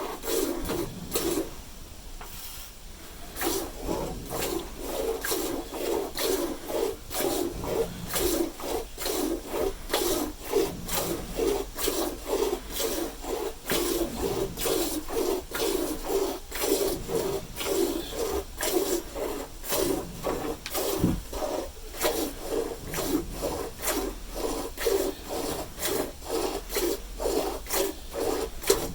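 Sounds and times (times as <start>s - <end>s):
milk squirting into a pail: 3.3s - 28.9s.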